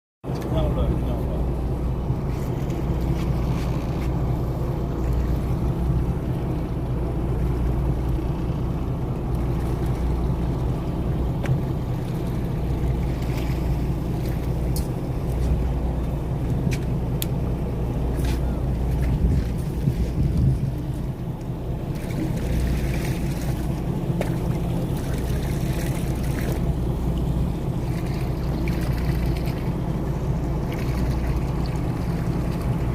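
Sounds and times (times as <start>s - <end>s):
boat engine humming: 0.2s - 32.9s.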